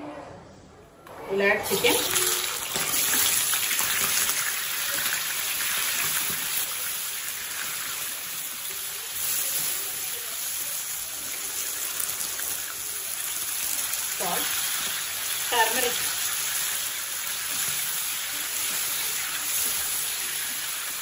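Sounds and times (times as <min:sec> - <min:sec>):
chicken sizzling in hot oil: 0:01.6 - 0:21.0.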